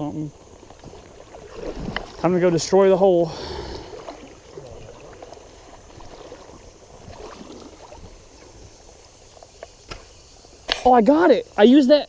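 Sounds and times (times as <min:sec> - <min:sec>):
river water sloshing and gurgling: 0:00.0 - 0:10.7.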